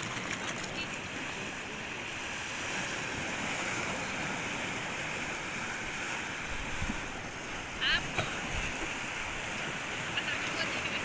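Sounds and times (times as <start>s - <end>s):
waves breaking on a beach: 0.0s - 11.0s.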